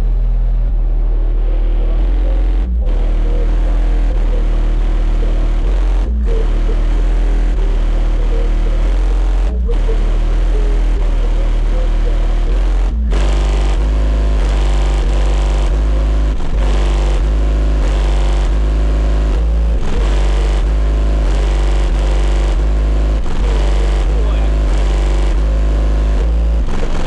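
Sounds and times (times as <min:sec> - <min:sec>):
bass-heavy music from car speakers: 0:00.0 - 0:27.0.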